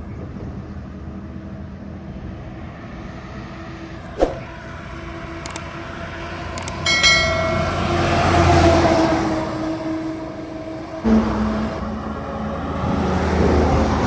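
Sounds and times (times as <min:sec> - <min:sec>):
heavy truck passing: 0:01.2 - 0:14.0.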